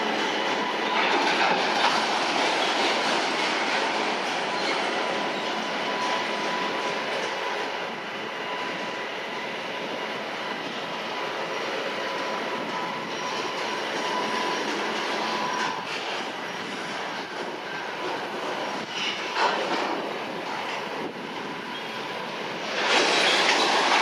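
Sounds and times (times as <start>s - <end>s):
high wheel squeal: 0.0s - 24.0s
train wheels rumbling on rails: 0.0s - 24.0s.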